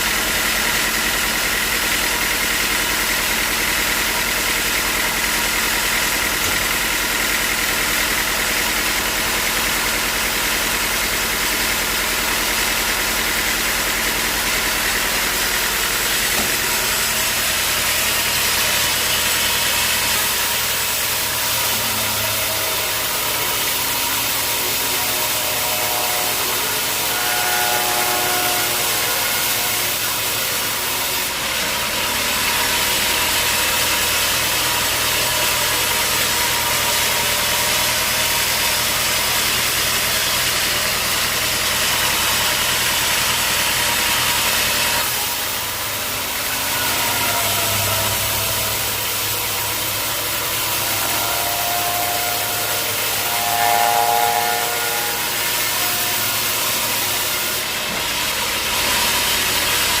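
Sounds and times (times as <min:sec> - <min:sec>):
saw whine: 0:00.0 - 1:00.0
sawmill machinery running: 0:00.0 - 1:00.0.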